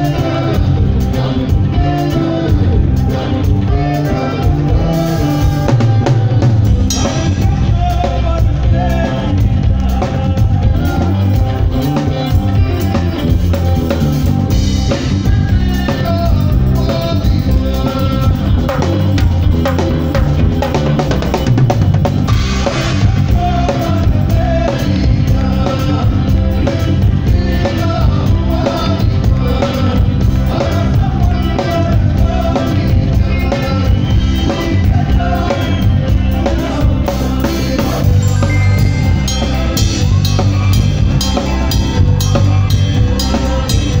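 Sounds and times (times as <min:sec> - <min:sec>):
live band playing: 0:00.0 - 0:44.0.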